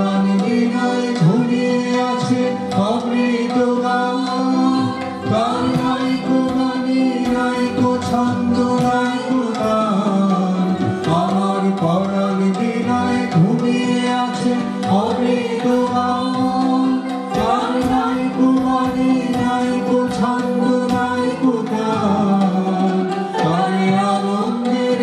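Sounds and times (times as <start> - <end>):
harmonium drone: 0.0 - 25.0
person singing: 0.0 - 25.0
tabla strokes: 0.0 - 25.0.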